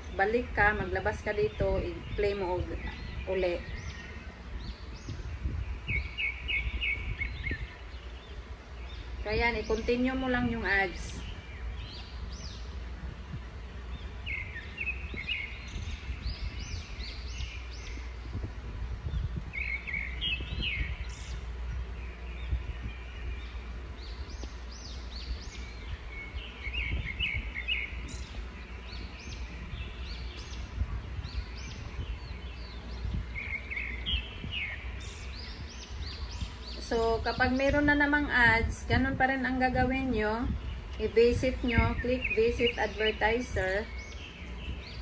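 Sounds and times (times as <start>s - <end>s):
birds chirping: 0.0s - 45.0s
low background rumble: 0.0s - 45.0s.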